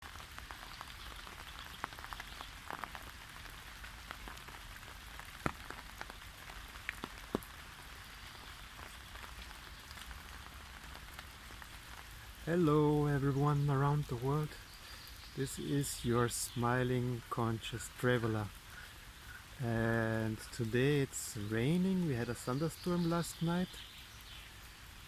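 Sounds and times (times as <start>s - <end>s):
light rain hissing: 0.0s - 25.0s
raindrops ticking on surfaces: 0.0s - 25.0s.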